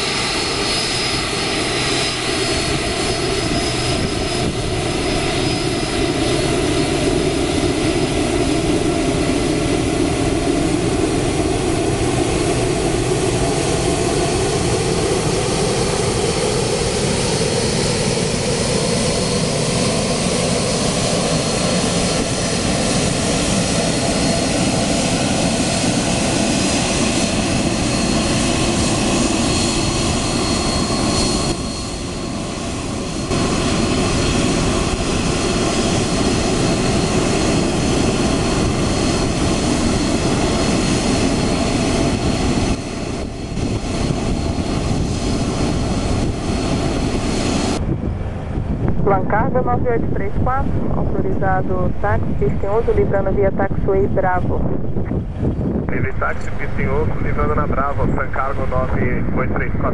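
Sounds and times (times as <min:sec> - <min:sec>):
jet engines whining and rushing: 0:00.0 - 0:59.9.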